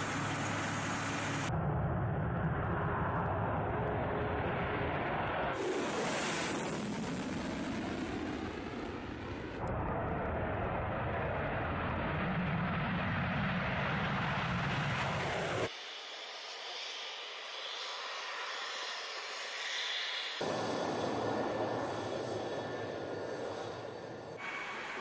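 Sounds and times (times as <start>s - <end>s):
jet engine roar: 0.0s - 25.0s.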